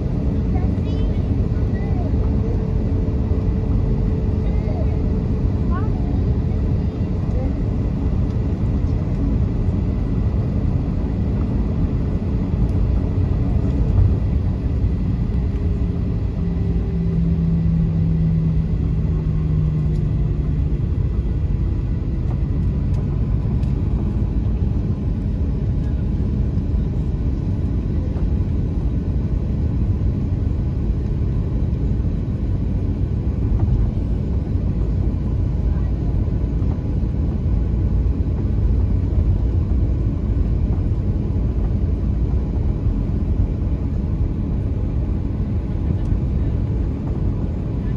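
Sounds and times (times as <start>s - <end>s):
airliner cabin rumble: 0.0s - 47.9s
low hum: 0.0s - 47.9s.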